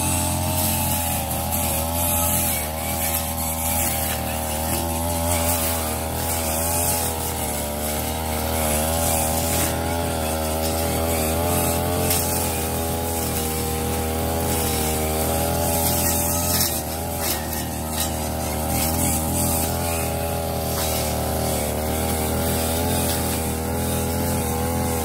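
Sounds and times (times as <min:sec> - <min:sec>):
brush cutter engine cutting grass: 0:00.0 - 0:25.0.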